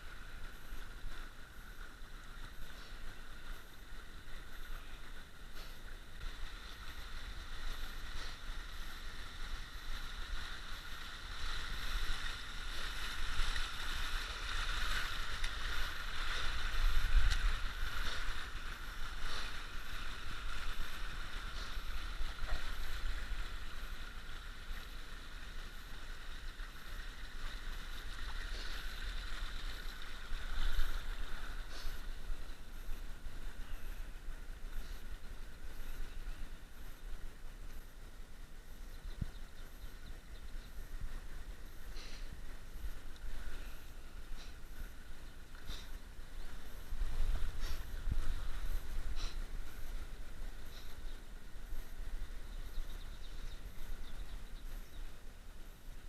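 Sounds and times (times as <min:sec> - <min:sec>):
low rumble on microphone: 0:00.0 - 0:56.0
shallow creek water running: 0:00.0 - 0:56.0.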